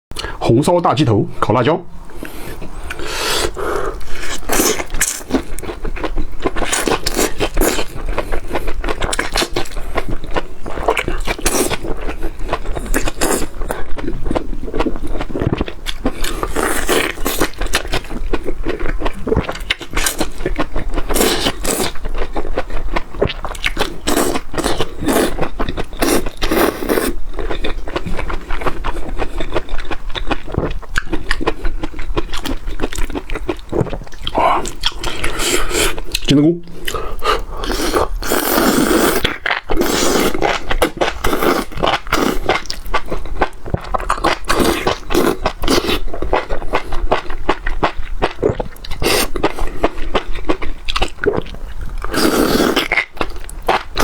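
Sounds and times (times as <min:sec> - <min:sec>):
wet chewing: 0:02.2 - 0:54.0.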